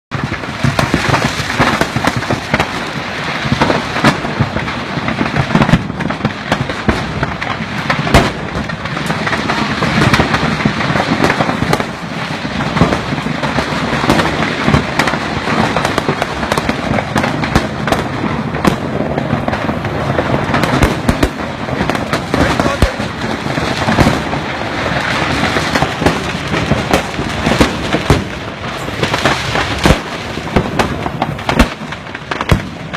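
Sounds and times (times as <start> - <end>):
firecracker bangs: 0.1 - 32.9
firecrackers crackling: 0.1 - 32.9.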